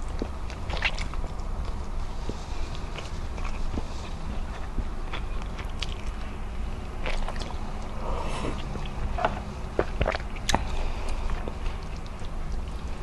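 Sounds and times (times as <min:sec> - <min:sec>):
chewing with mouth clicks: 0:00.0 - 0:13.0
steady low hum: 0:00.0 - 0:13.0.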